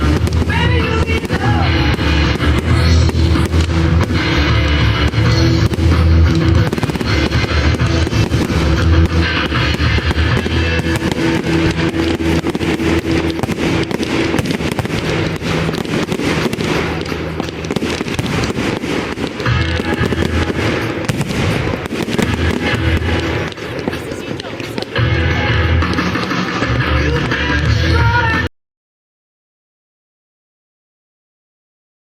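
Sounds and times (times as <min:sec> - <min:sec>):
fireworks banging and crackling: 0:00.0 - 0:28.5
loud music: 0:00.0 - 0:28.5.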